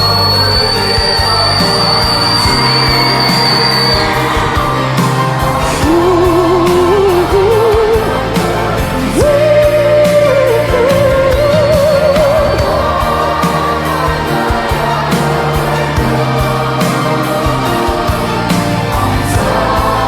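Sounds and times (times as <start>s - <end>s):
instrumental backing: 0.0s - 20.0s
man singing pop ballad: 0.0s - 20.0s.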